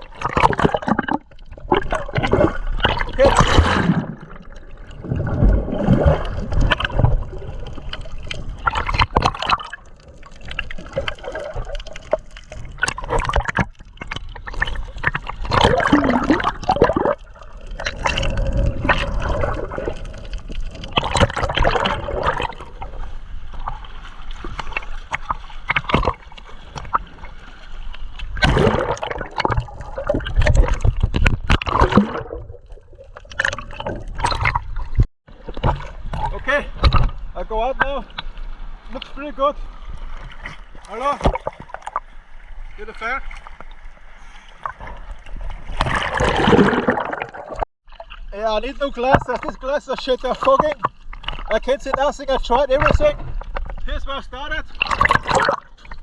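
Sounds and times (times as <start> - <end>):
sea water sloshing and gurgling: 0.0 - 56.0.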